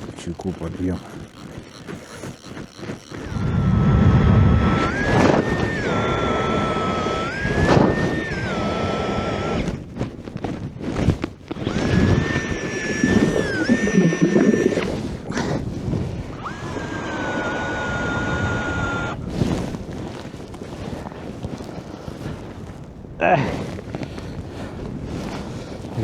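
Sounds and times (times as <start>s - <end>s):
blizzard wind buffeting microphone: 0.0s - 26.0s.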